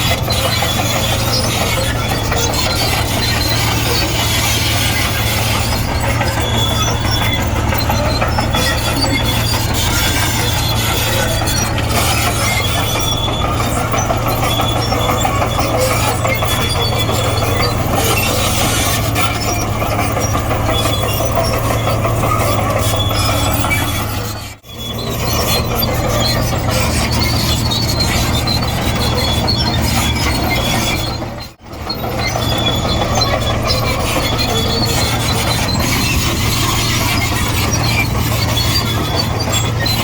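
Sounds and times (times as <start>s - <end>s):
bulldozer diesel engine drone: 0.0s - 40.0s
steel tracks clattering and squeaking: 0.0s - 40.0s.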